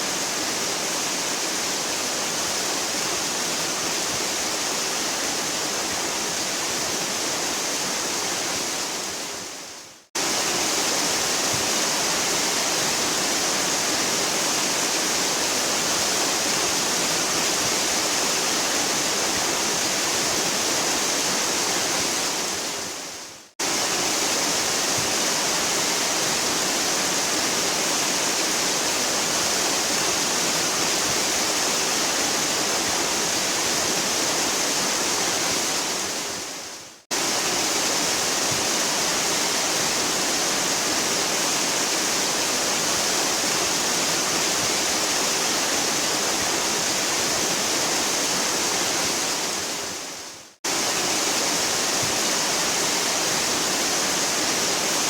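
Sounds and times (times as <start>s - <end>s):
waterfall rushing: 10.2s - 55.0s.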